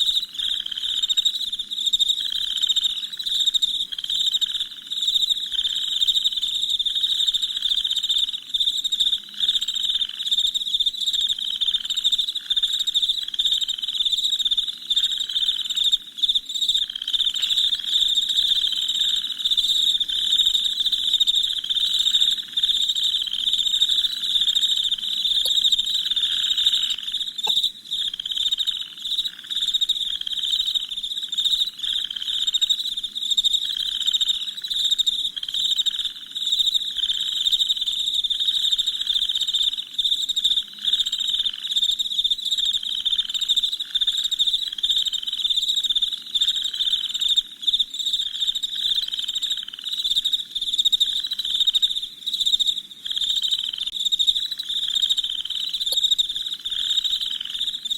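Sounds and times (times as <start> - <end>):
lower cricket chirping: 0.0 - 57.9.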